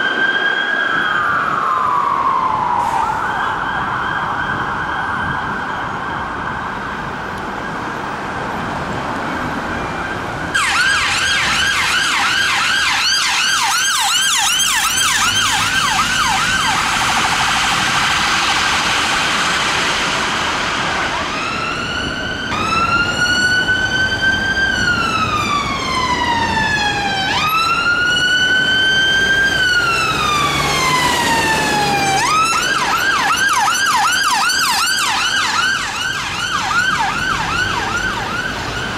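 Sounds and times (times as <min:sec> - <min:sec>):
siren yelping and wailing: 0:00.0 - 0:08.0, 0:09.6 - 0:38.9
steady siren tone: 0:00.0 - 0:38.9.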